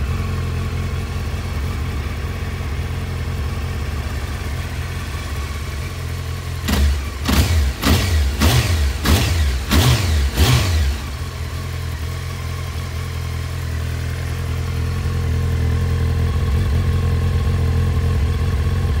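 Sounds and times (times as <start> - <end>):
motorcycle engine revving and idling: 0.0 - 19.0.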